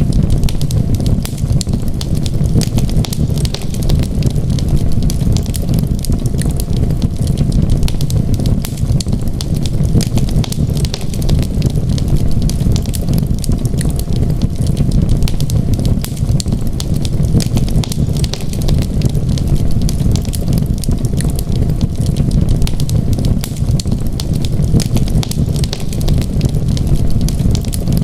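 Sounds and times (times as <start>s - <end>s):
low rumble of flames: 0.0s - 28.0s
wood fire crackling and popping: 0.0s - 28.0s.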